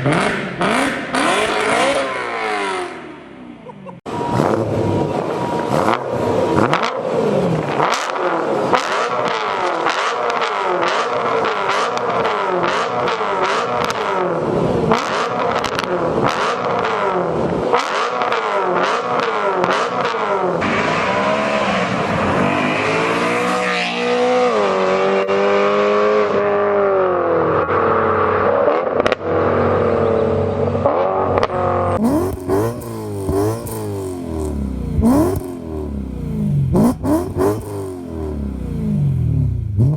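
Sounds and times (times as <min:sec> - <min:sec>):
car engine revving: 0:00.0 - 0:03.4, 0:04.1 - 0:39.9.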